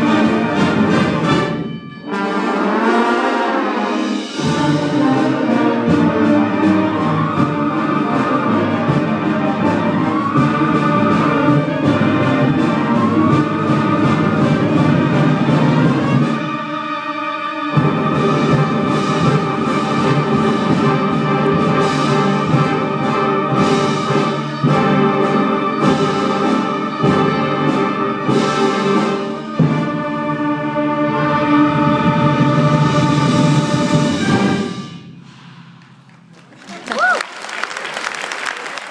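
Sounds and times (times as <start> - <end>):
concert band playing: 0.0 - 16.8, 17.7 - 37.1.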